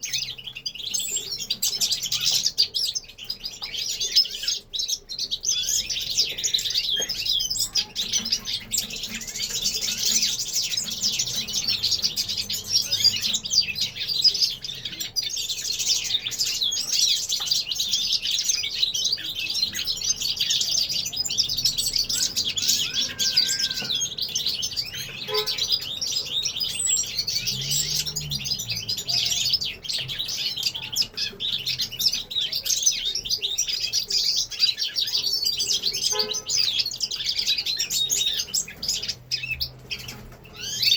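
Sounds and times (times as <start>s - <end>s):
finches chirping and trilling: 0.0s - 40.9s.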